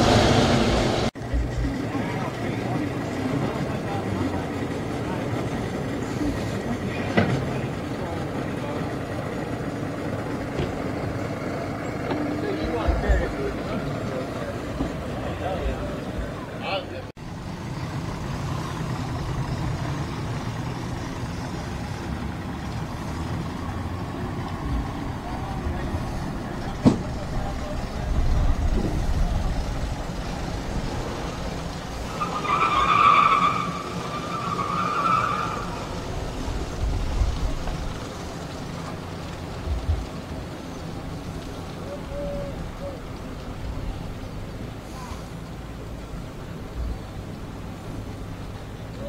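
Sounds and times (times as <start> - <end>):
engines idling: 0.0 - 49.0.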